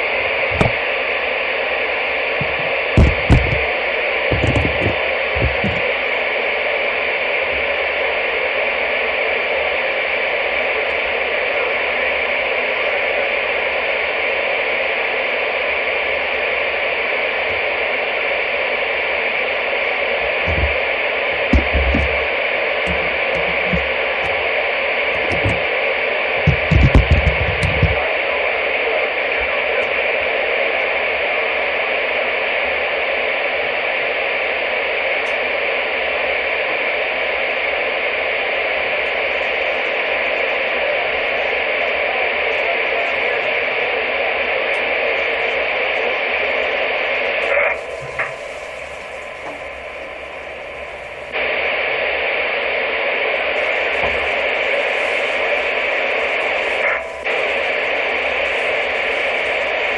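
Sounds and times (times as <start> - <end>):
radio static hiss: 0.0 - 59.9.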